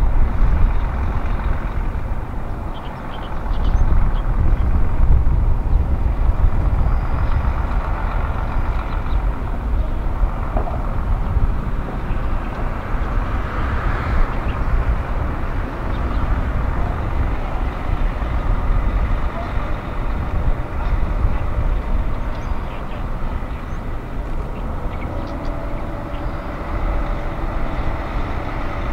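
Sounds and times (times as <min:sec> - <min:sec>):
diesel engine rumbling at low revs: 0:00.0 - 0:28.9.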